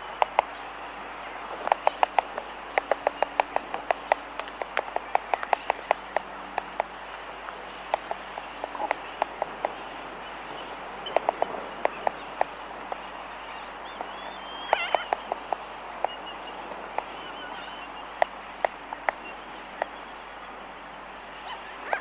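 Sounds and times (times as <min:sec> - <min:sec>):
albatrosses clacking bills: 0:00.0 - 0:20.0.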